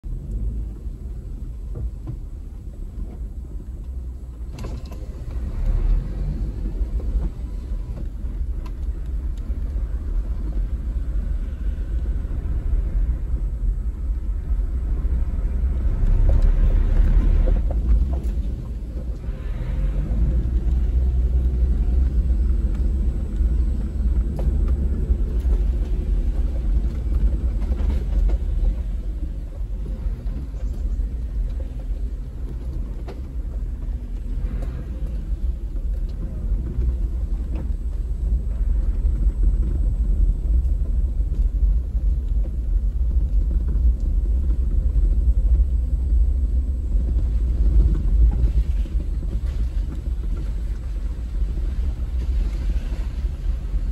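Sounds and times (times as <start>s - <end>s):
vehicle engine rumble from inside cab: 0.0s - 53.9s.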